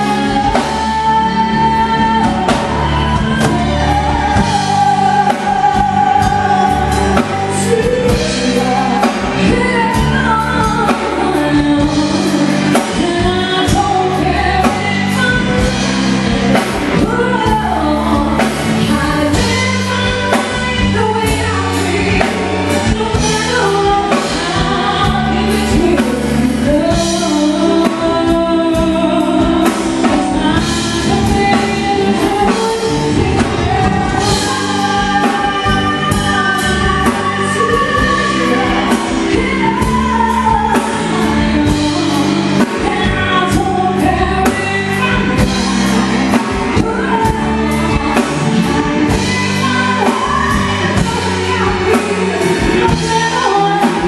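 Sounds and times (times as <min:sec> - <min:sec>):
amplified band with drum beat: 0:00.0 - 0:54.0
woman singing into microphone: 0:00.0 - 0:54.0.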